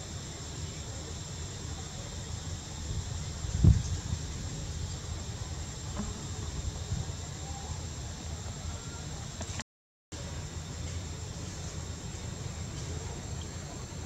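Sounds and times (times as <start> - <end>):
faint high hum: 0.0 - 9.6, 10.2 - 14.0.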